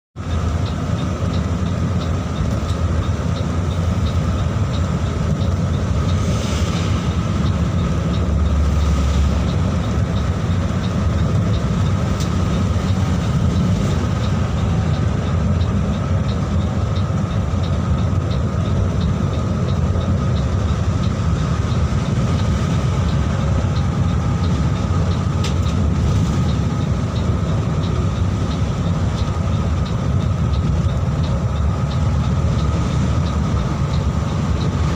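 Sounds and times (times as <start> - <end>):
bus engine rumble: 0.2 - 34.9.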